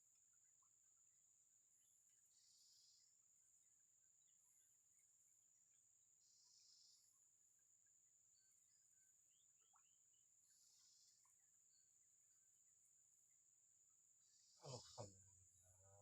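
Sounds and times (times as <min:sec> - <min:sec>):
faint chirps: 0:00.0 - 0:16.0.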